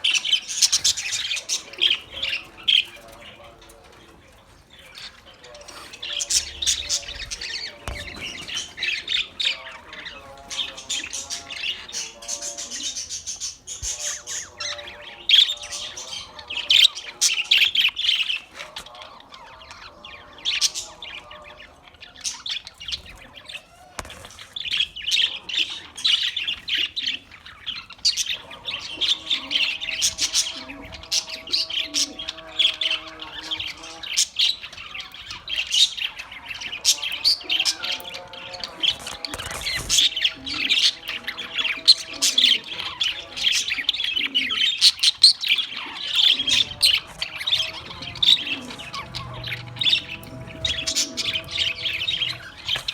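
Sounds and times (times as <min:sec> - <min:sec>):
parrots chirping and squawking: 0:00.0 - 0:52.9.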